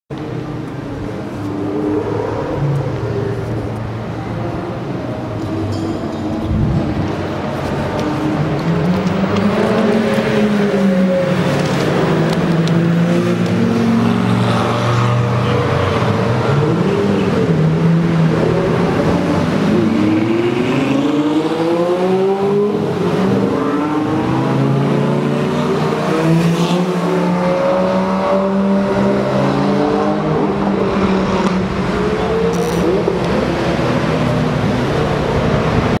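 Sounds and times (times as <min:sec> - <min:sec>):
sports cars driving past: 0:00.2 - 0:36.0.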